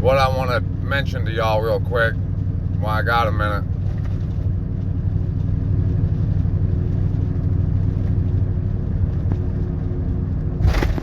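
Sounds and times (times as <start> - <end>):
motor vehicle engine rumble: 0.0 - 11.0.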